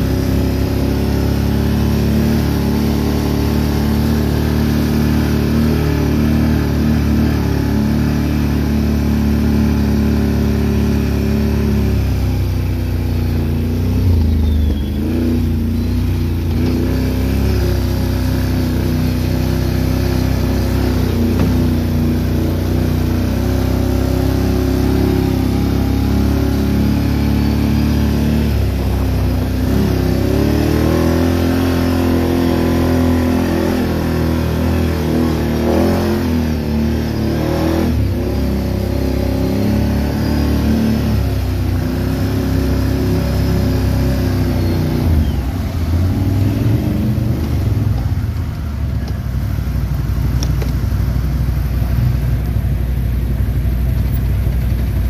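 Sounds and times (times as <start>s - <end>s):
off-road engine revving: 0.0s - 55.0s.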